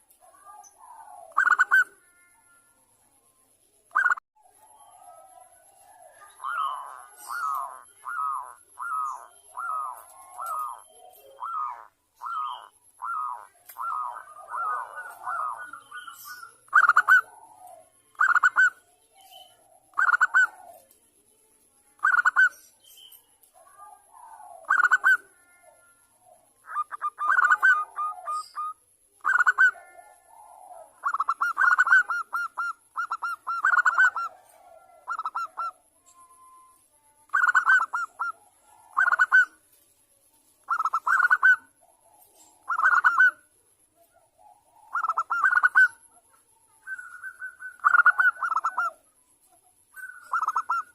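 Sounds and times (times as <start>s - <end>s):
dove cooing: 0.0s - 2.6s, 3.9s - 21.0s, 22.0s - 22.6s, 23.5s - 39.6s, 40.6s - 49.2s, 49.9s - 50.9s.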